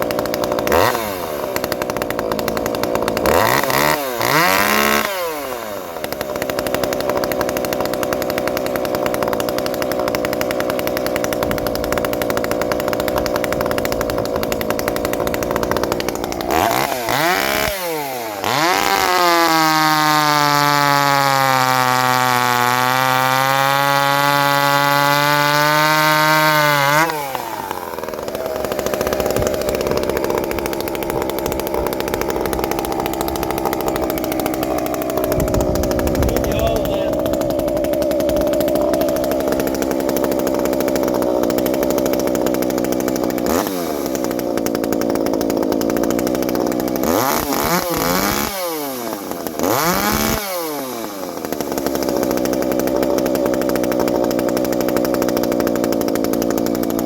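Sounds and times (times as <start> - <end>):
chainsaw idling and revving: 0.0 - 57.0.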